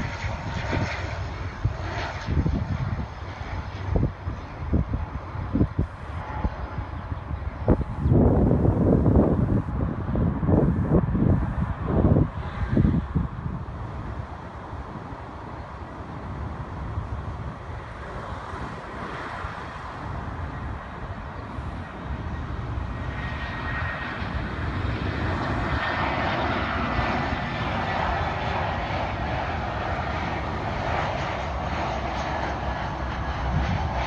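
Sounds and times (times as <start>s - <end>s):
jet airliner engines rushing: 0.0s - 34.0s.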